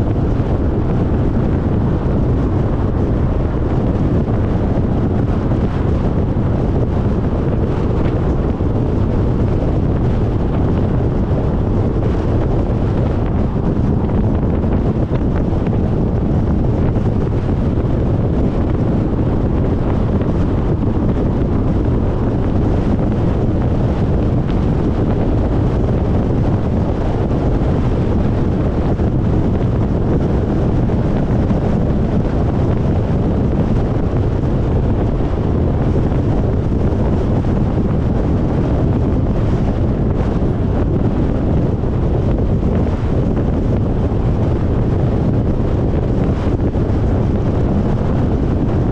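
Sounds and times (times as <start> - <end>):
car road rumble: 0.0 - 48.9
wind buffeting microphone: 0.0 - 48.9.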